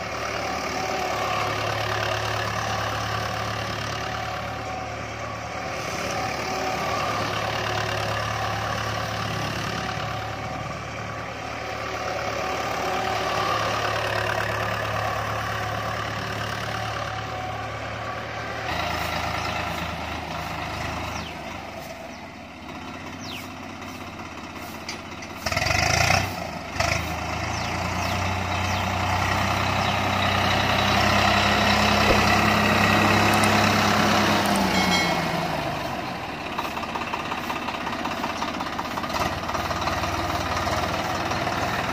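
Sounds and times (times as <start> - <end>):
diesel tractor engine under load: 0.0 - 41.9.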